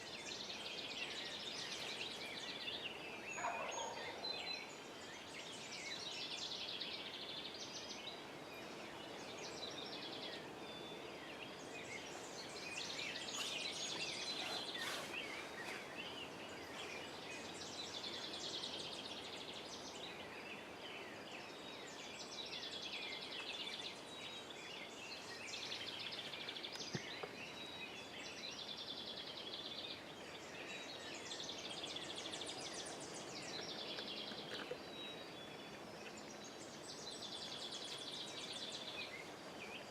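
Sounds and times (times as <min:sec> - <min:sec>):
songbirds singing trilled phrases: 0:00.0 - 0:39.9.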